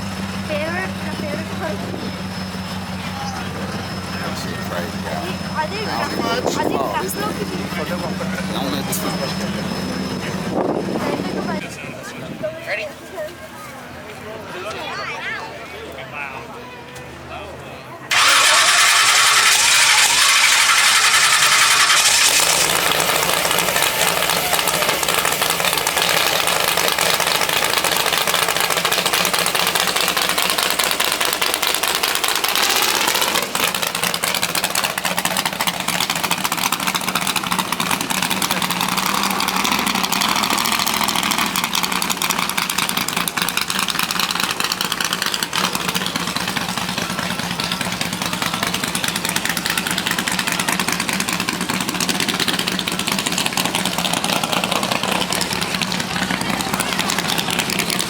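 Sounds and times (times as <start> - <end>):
car engine running loudly: 0.0 - 12.4, 18.1 - 58.0.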